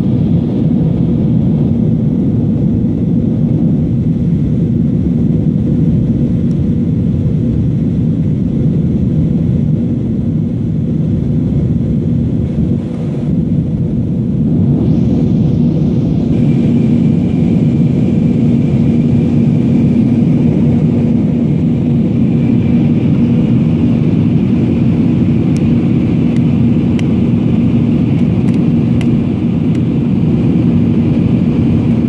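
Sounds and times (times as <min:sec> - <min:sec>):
airplane cabin drone: 0:00.0 - 0:32.0.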